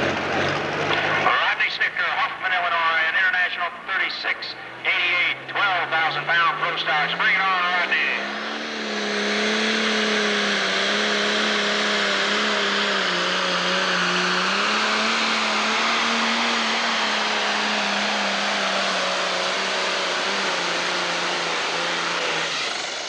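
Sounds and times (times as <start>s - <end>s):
diesel engine droning under load: 0.0s - 23.0s.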